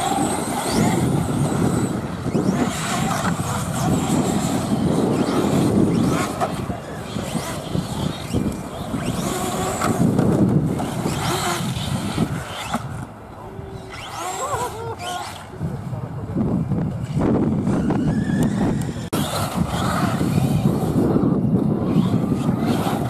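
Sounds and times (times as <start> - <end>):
remote-control car motors whining: 0.0 - 23.0.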